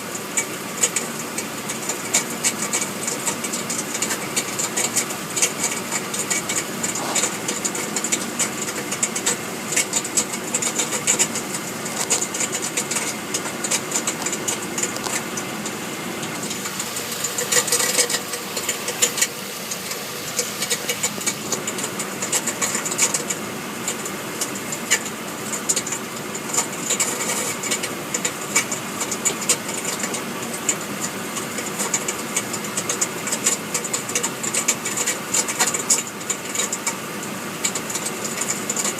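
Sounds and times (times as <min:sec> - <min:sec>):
engine running: 0:00.0 - 0:38.9
rapid rattling under vehicle: 0:00.0 - 0:38.9.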